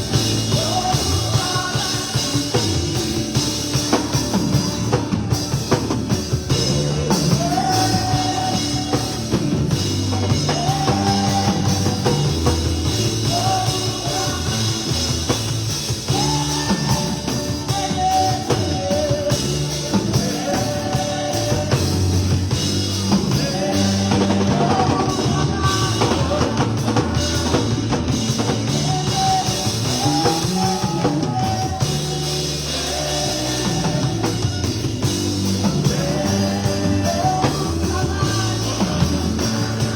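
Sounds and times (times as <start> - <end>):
band music with singing: 0.0 - 39.9.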